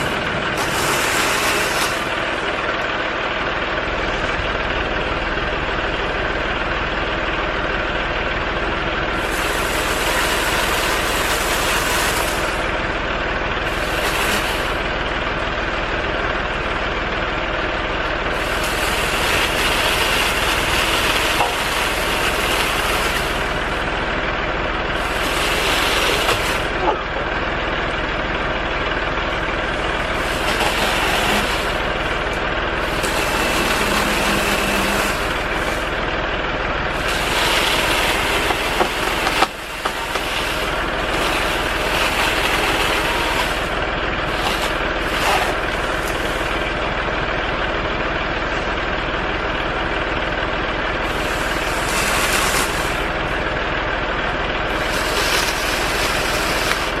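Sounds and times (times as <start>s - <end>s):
heavy engine idling: 0.0s - 57.0s.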